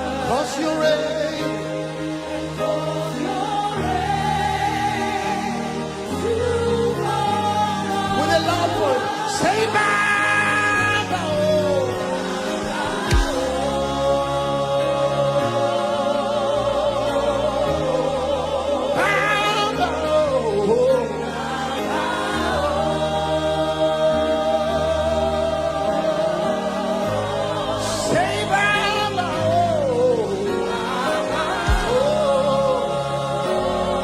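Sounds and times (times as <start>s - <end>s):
choir singing: 0.0s - 34.0s
keyboard and bass chords: 0.0s - 34.0s
lead singer singing with vibrato: 0.0s - 34.0s.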